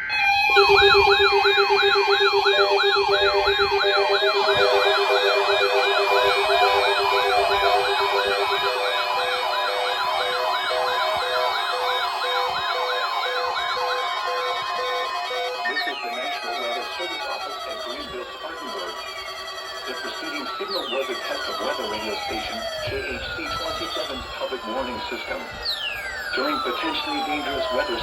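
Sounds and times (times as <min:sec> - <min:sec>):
electronic siren wails: 0:00.0 - 0:28.0
steady and pulsing tones: 0:00.0 - 0:28.0.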